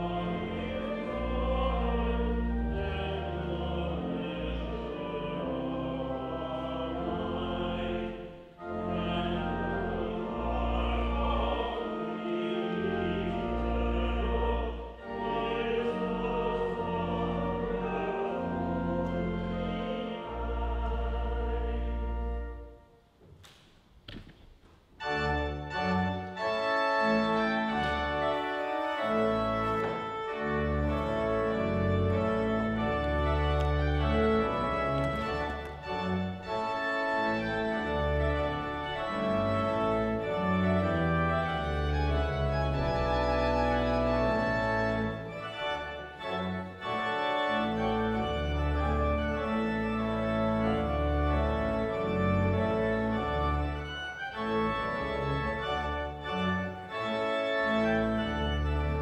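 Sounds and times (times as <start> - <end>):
church organ playing chords: 0.0 - 22.9, 25.0 - 59.0.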